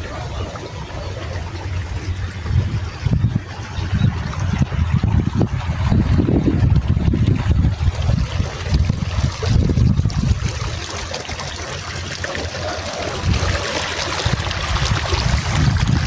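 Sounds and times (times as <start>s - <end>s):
water trickling: 0.0s - 16.0s
wind buffeting microphone: 0.0s - 16.0s.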